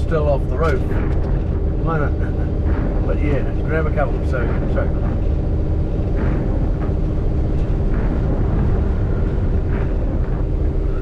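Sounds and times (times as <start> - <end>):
truck engine drone: 0.0 - 11.0
wind and road rumble: 0.0 - 11.0.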